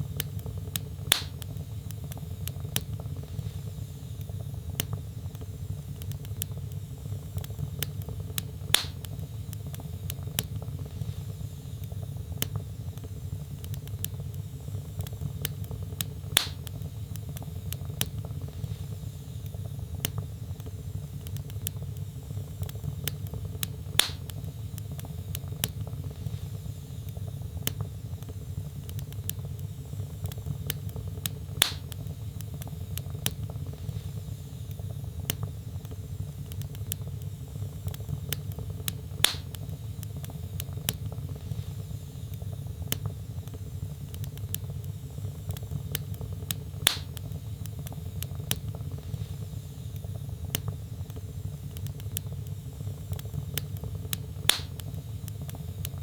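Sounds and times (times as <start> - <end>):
fire crackling: 0.0 - 56.0
loud fire pops: 0.1 - 26.6, 27.2 - 41.9, 42.8 - 56.0.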